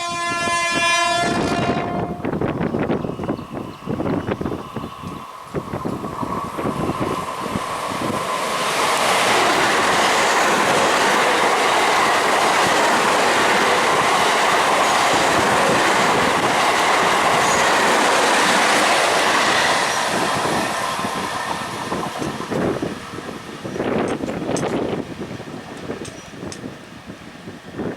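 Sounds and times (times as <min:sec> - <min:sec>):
train wheels clattering on rails: 0:02.6 - 0:26.8.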